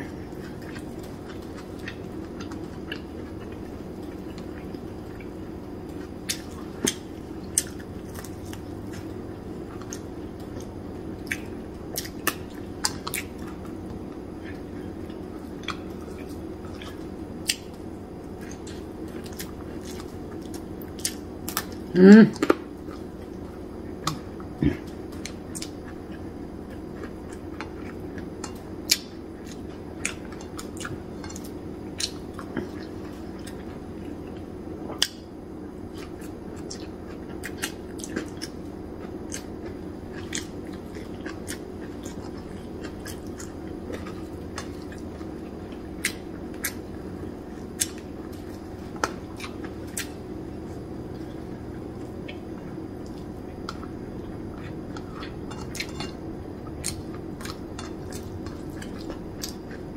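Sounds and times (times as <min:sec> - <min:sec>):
person chewing crisp food: 0:00.0 - 0:35.2, 0:35.9 - 0:59.9
steady low hum: 0:00.0 - 0:59.9.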